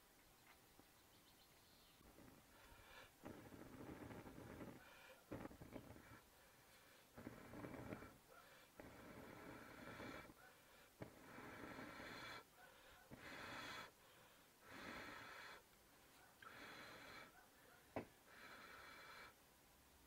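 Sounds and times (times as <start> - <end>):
faint puffs of breath: 2.1 - 19.5.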